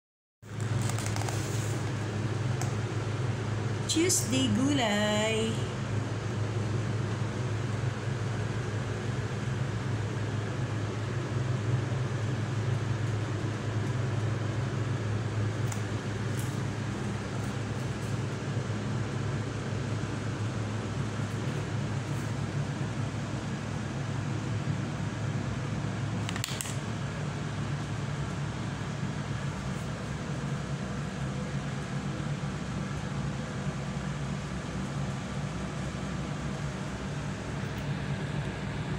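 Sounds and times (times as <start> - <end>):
low mechanical hum: 0.4 - 38.9.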